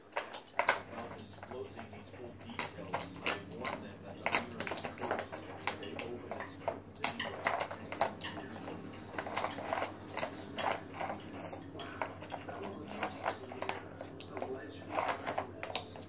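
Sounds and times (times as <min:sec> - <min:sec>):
plastic caps knocking and clicking: 0:00.0 - 0:16.0.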